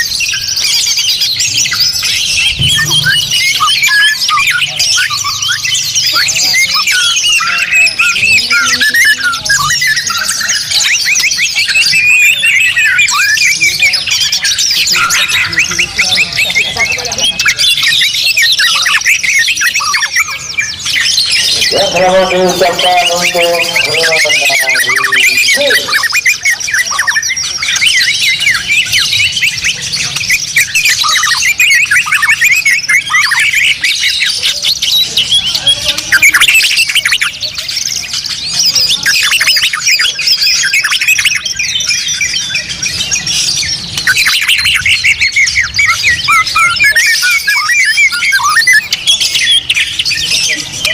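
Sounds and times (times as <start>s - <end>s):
songbirds chorus: 0.0s - 50.9s.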